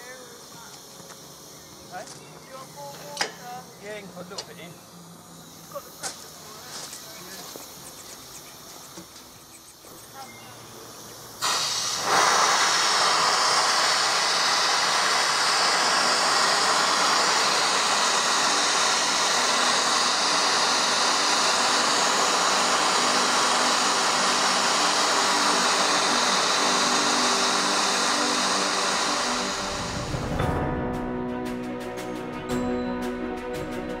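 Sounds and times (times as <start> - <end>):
steam hissing from valve: 0.0 - 30.5.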